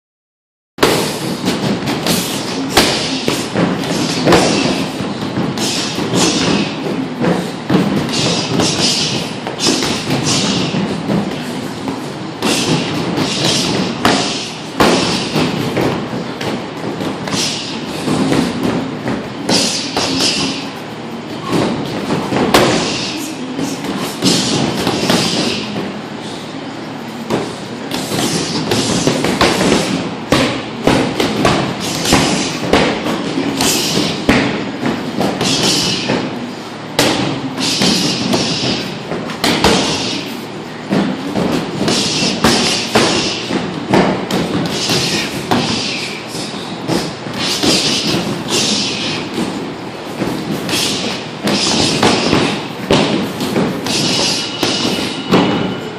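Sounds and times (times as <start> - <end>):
punches and kicks on heavy bag: 0.8 - 20.7, 21.4 - 25.9, 27.3 - 36.4, 37.0 - 40.3, 40.9 - 46.0, 46.8 - 49.6, 50.2 - 55.7.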